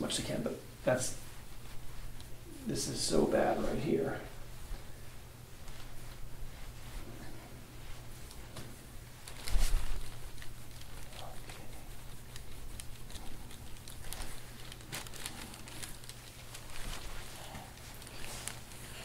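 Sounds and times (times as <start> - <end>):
hands rubbing skin: 0.1 - 19.0.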